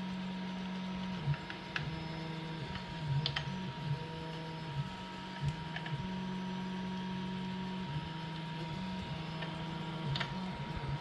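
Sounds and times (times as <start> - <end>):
cooling fans whirring: 0.0 - 11.0
stepper motors humming: 0.0 - 11.0.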